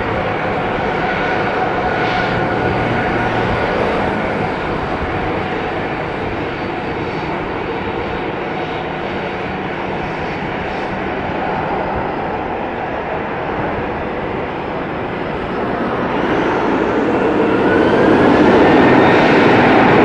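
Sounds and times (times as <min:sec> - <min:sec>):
jet engines at low thrust: 0:00.0 - 0:20.0.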